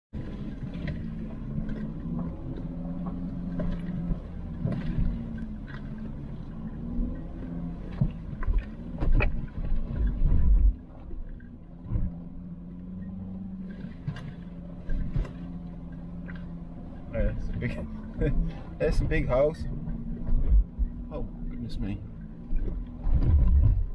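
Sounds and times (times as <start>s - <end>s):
car engine low note: 0.2s - 23.9s.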